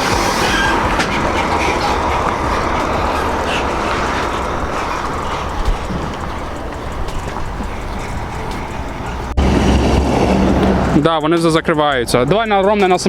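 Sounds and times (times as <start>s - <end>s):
rattling and clatter: 0.0s - 11.1s
truck engine rumble: 0.0s - 13.0s.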